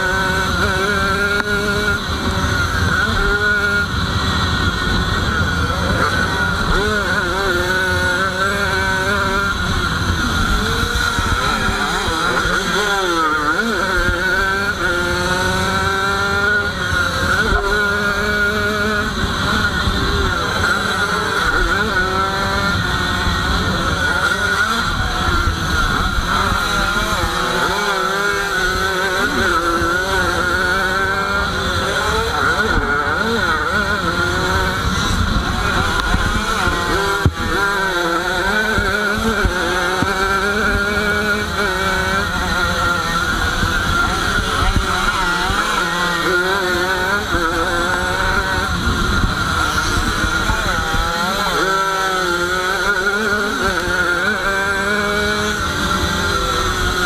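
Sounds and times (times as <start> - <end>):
two-stroke motorbike engine revving: 0.0 - 57.0.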